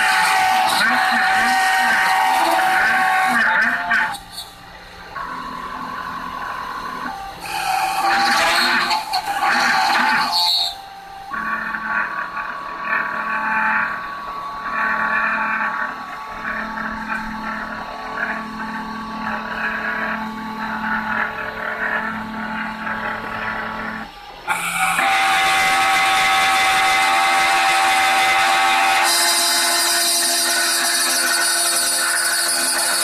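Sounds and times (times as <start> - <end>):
milling machine cutting acrylic: 0.0 - 33.0.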